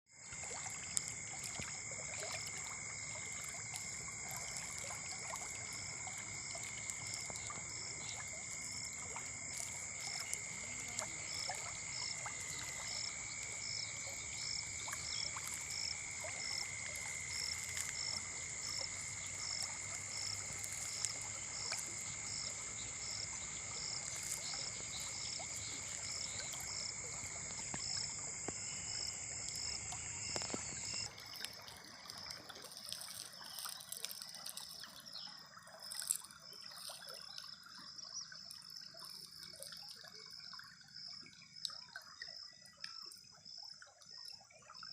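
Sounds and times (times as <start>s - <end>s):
frogs and insects calling: 0.2s - 44.9s.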